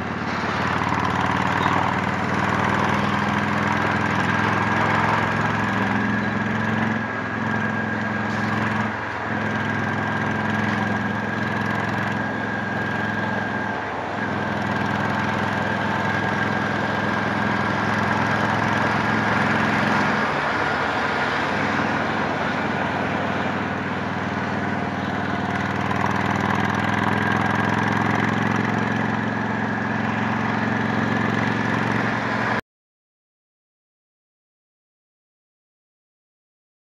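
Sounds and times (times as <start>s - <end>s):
motorcycle engine running: 0.0s - 32.6s.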